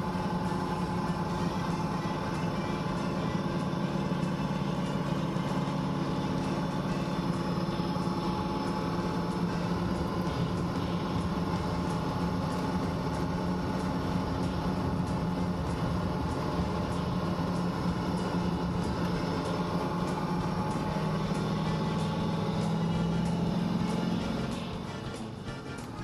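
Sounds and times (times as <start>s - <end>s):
car engine running: 0.0s - 26.0s
road and tyre noise: 0.0s - 26.0s.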